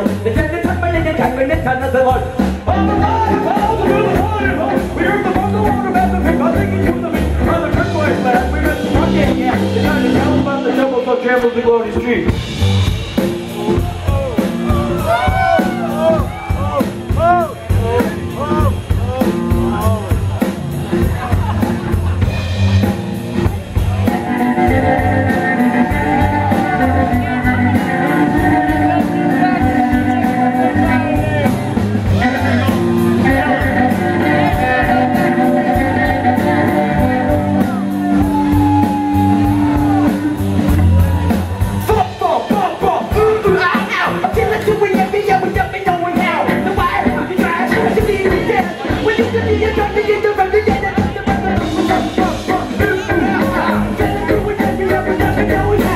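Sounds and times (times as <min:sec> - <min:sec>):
drum beat: 0:00.0 - 0:10.9, 0:12.0 - 0:55.9
bass guitar: 0:00.0 - 0:55.9
live rock band: 0:00.0 - 0:55.9.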